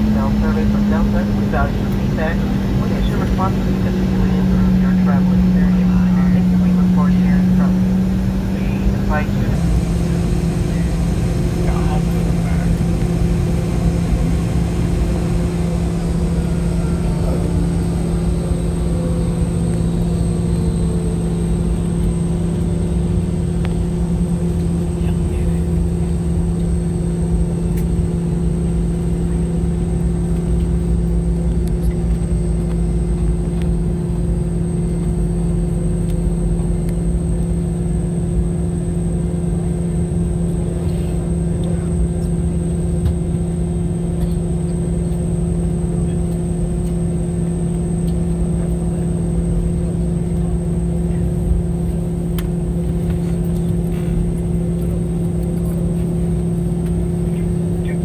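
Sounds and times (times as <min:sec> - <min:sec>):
high engine whine: 0:00.0 - 0:58.0
jet engines hum and rumble: 0:00.0 - 0:58.0.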